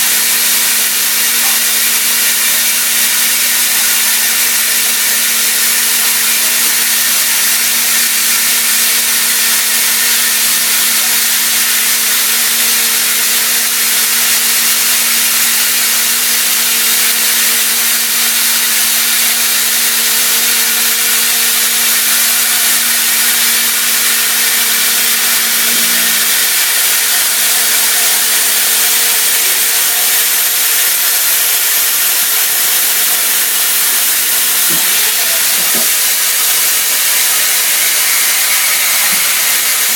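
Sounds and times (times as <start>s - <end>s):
coolant spray hissing: 0.0s - 39.9s
humming tone from milling cut: 0.0s - 39.9s.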